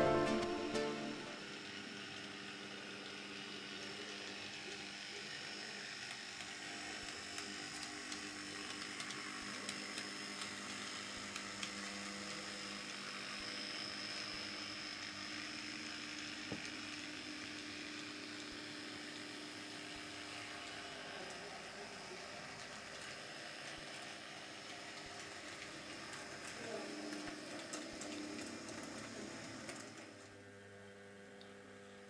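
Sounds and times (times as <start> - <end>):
small electric motor whine: 0.0 - 32.0.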